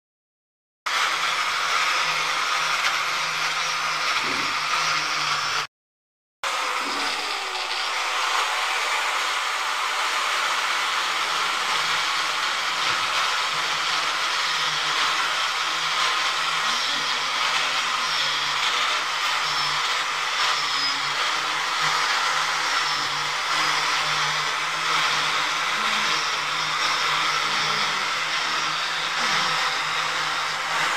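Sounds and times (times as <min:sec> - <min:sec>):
power tool grinding brick: 0:00.9 - 0:05.7, 0:06.4 - 0:30.9.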